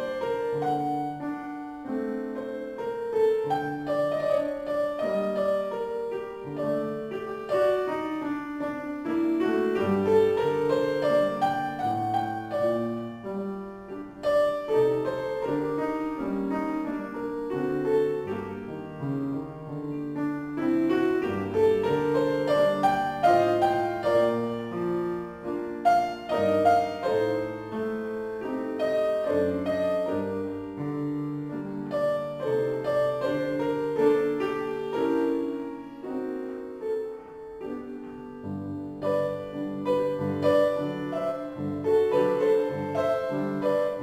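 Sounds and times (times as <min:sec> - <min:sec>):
piano melody over chords: 0:00.0 - 0:44.0.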